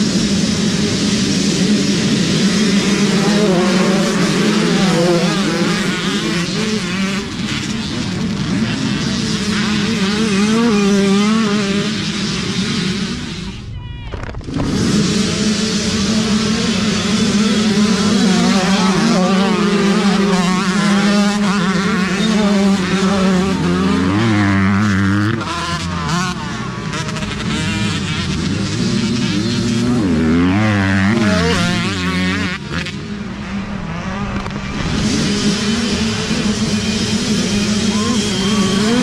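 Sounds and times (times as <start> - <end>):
dirt bike passing by: 0.0 - 13.6, 14.4 - 39.0
dirt bike engines revving: 0.0 - 39.0.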